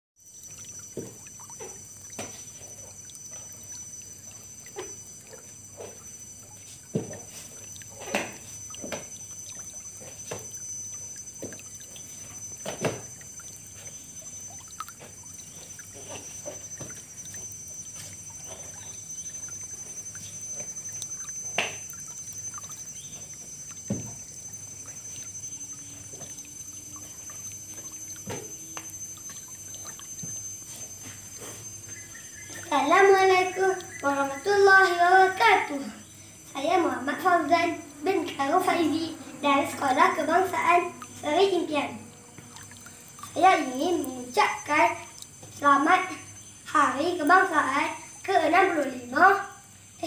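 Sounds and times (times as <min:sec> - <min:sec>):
faint high-pitched whine: 0:00.2 - 0:50.0.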